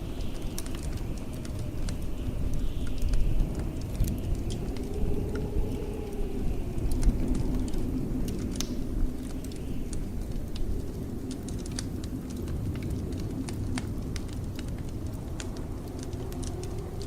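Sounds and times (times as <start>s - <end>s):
blizzard wind rumbling: 0.0s - 17.0s
wood fire crackling: 0.0s - 17.0s.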